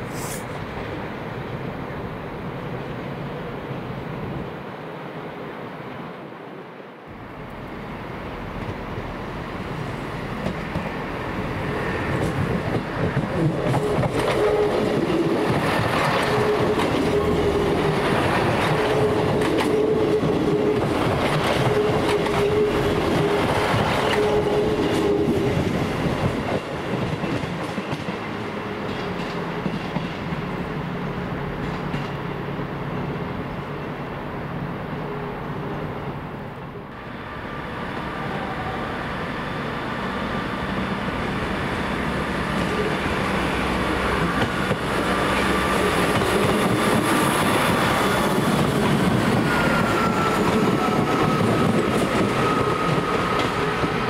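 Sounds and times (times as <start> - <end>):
train whine: 0.0 - 54.0.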